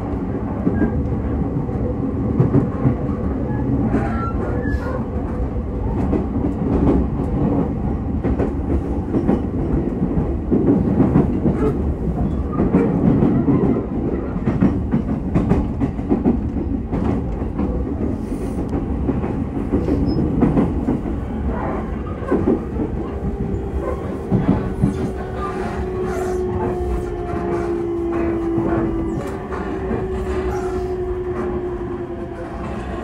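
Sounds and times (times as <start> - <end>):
rail joint clicks: 0.0 - 33.0
train wheels rumbling on rail: 0.0 - 33.0.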